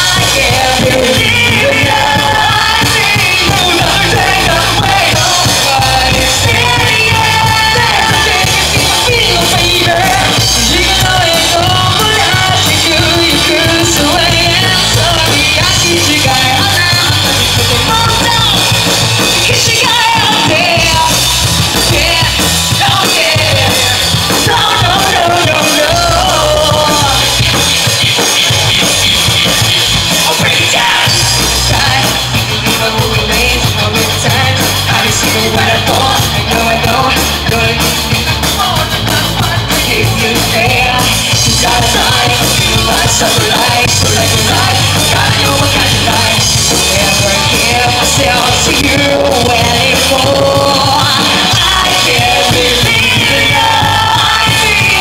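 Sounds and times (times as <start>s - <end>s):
rock band playing loud: 0.0s - 55.0s
singer singing: 0.0s - 55.0s.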